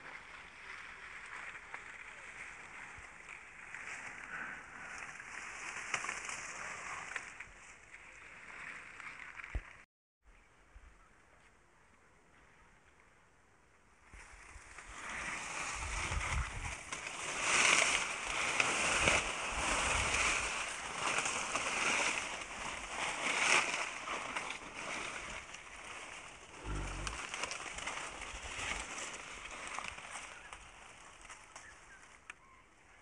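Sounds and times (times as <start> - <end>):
dry grass rustling: 0.0 - 9.8, 14.0 - 33.0.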